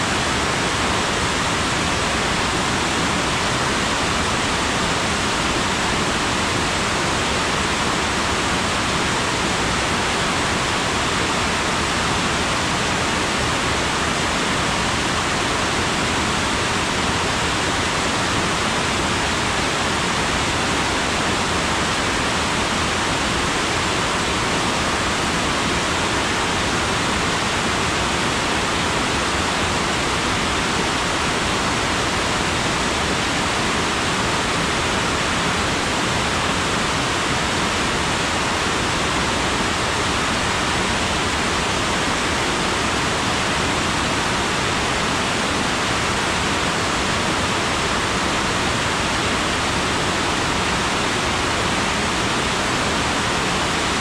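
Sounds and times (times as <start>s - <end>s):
water cascading over rocks: 0.0s - 54.0s.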